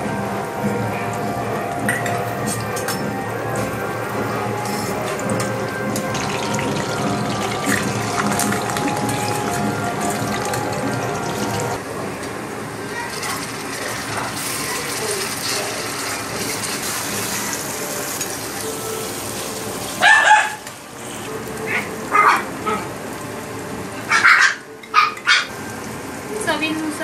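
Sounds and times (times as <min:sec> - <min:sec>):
onions sizzling in hot oil: 0:03.4 - 0:24.8, 0:25.5 - 0:27.0.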